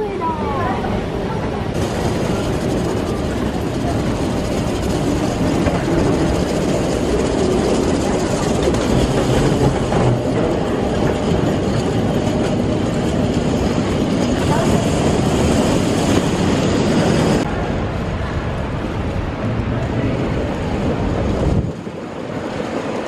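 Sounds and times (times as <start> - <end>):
moving vehicle rumble: 0.0 - 23.0.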